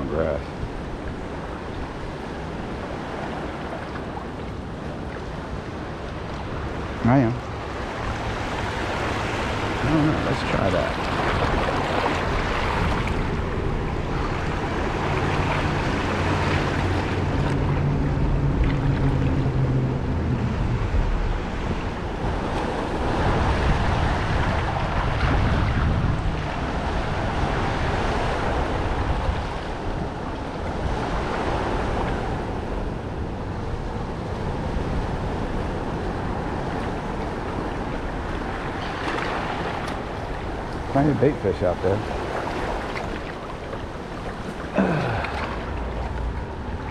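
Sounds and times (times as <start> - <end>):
wind on microphone: 0.0 - 41.4
boat engine humming: 0.0 - 46.9
moving water: 0.0 - 46.9.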